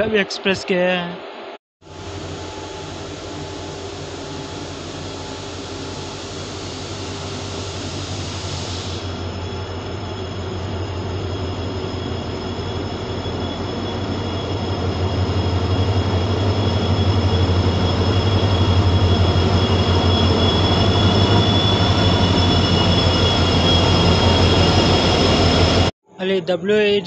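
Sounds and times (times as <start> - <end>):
high whine: 0.0 - 8.2, 8.9 - 27.0
diesel locomotive engine rumble: 1.9 - 25.9.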